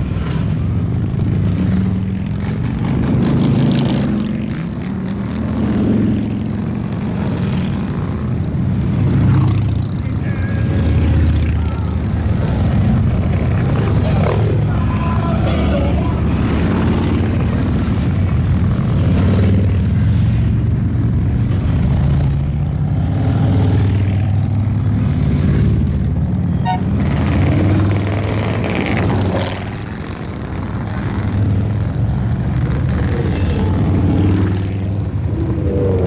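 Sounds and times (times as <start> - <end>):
motorcycles riding past: 0.0 - 36.0.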